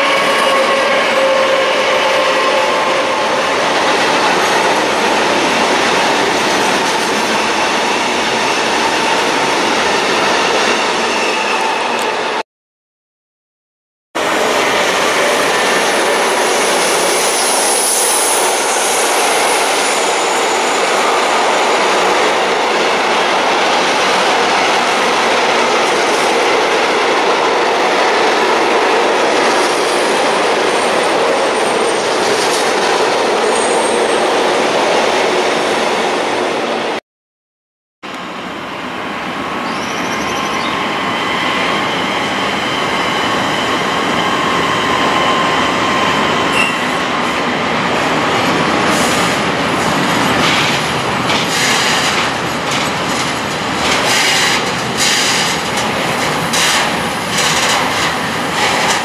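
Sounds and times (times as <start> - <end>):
freight train rolling past: 0.0 - 12.4, 14.2 - 37.0, 38.1 - 59.0
train wheels rushing on rails: 0.0 - 12.4, 14.2 - 37.0, 38.1 - 59.0.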